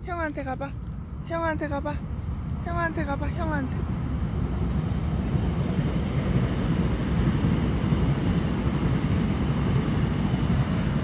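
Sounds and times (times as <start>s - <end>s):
low rumbling noise: 0.0s - 10.1s.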